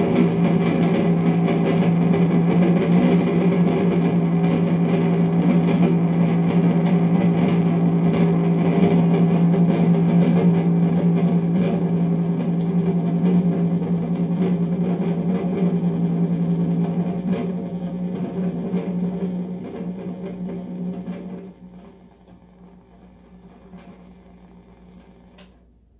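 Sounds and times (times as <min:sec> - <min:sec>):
distorted amplifier hum: 0:00.0 - 0:25.9.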